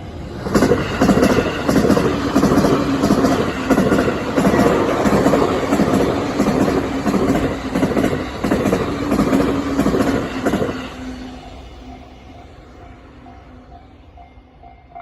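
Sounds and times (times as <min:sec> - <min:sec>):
train rumble and wheel clatter: 0:00.0 - 0:15.0
crossing warning bell ringing: 0:00.7 - 0:15.0.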